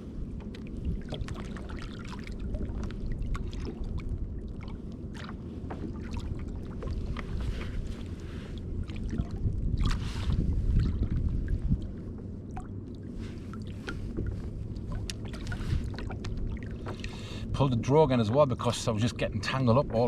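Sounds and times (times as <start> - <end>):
low rumble: 0.0 - 20.0
water lapping against kayak hull: 0.0 - 20.0.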